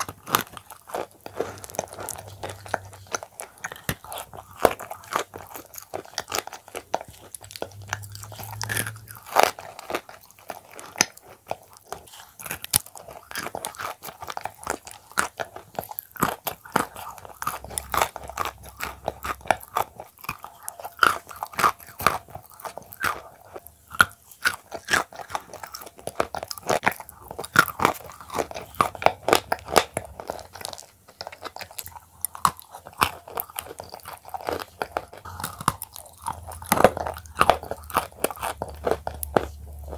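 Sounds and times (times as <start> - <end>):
cookies being crunched: 0.0 - 39.9.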